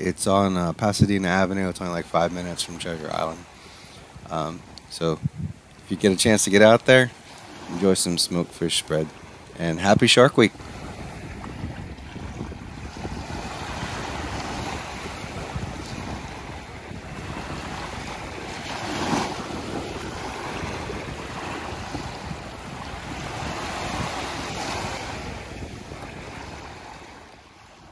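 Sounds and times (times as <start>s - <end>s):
wind buffeting microphone: 0.0s - 27.9s
small waves washing on sand: 1.2s - 27.9s.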